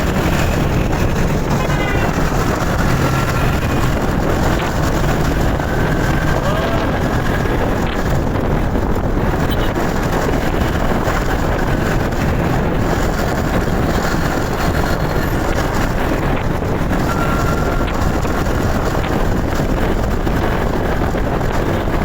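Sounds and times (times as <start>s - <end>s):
motorcycle engine and road noise: 0.0s - 22.0s
wind rushing on microphone: 0.0s - 22.0s.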